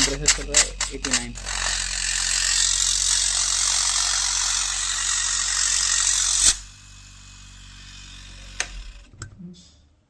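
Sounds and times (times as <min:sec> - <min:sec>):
refrigerator compressor rushing: 0:00.0 - 0:09.2
low hum: 0:00.0 - 0:10.0.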